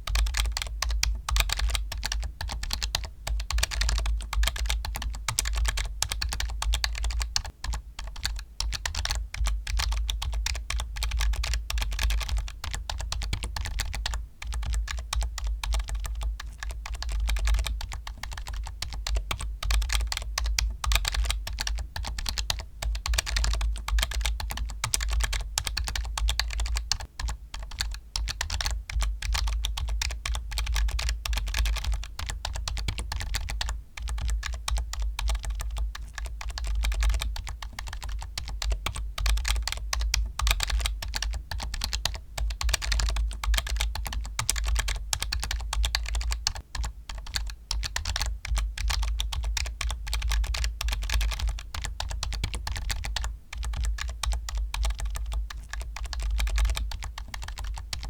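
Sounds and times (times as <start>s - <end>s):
fast typing on keyboard: 0.0s - 58.0s.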